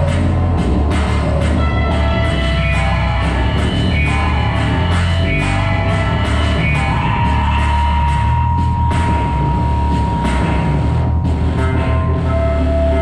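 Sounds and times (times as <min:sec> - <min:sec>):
live rock band music: 0:00.0 - 0:13.0.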